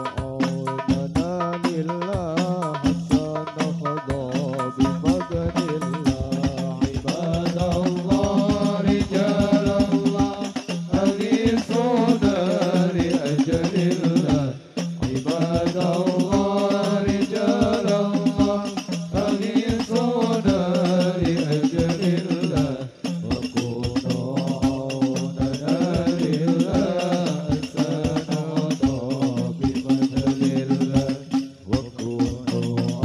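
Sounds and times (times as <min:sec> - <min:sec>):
frame drums beating: 0:00.0 - 0:33.0
men singing in unison: 0:00.0 - 0:33.0.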